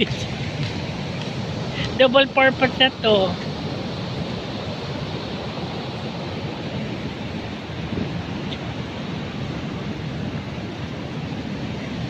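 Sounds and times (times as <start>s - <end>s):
ocean surf breaking: 0.0s - 12.0s
wind on microphone: 0.0s - 12.0s.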